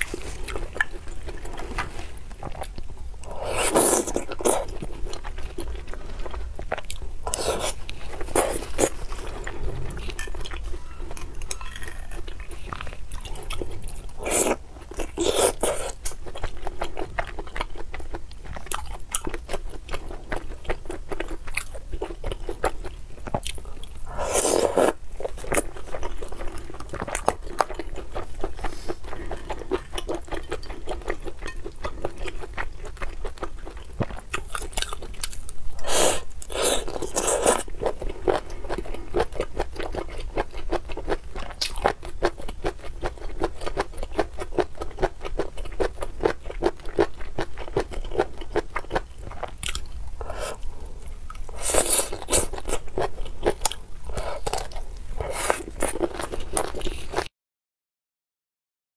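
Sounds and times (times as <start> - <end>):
chewing and biting: 0.0 - 35.6, 36.4 - 50.7.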